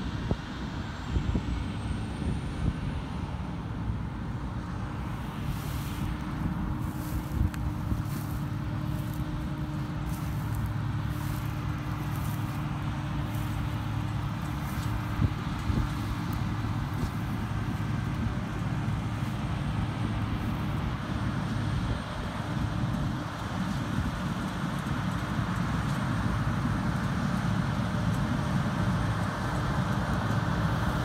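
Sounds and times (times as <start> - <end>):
combine harvester droning: 0.0 - 31.0
constant hum tone: 0.0 - 31.0.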